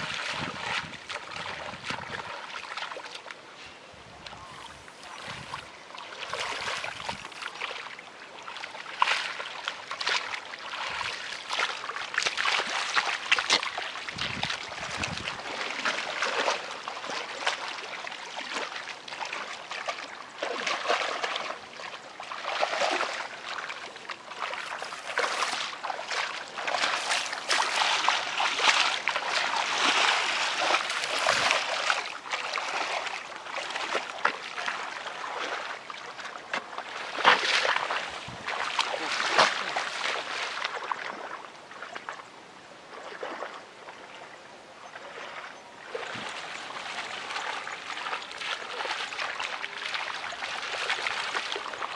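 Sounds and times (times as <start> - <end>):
muddy water splashing: 0.0 - 51.9.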